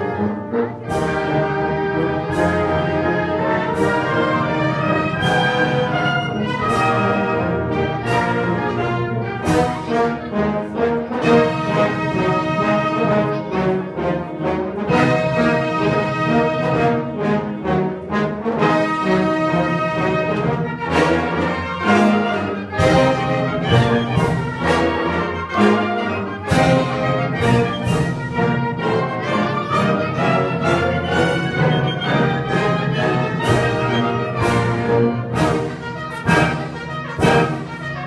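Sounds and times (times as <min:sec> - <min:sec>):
concert wind band playing: 0:00.0 - 0:38.0.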